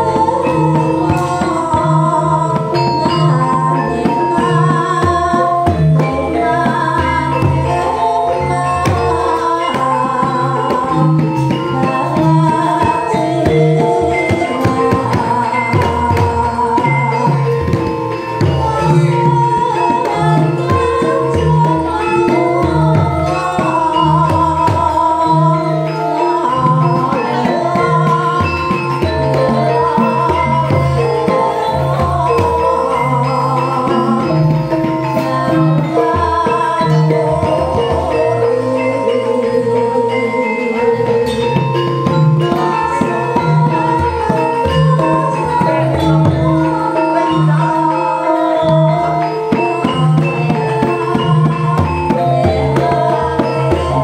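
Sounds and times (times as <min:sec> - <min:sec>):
gamelan ensemble playing: 0:00.0 - 0:54.0
hand drums keeping the beat: 0:00.0 - 0:54.0
women singing: 0:00.0 - 0:54.0.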